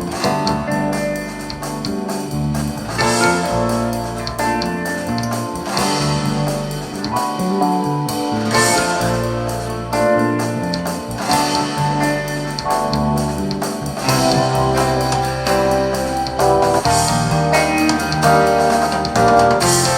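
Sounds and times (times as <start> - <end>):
guitar music with deep bass: 0.0 - 19.9.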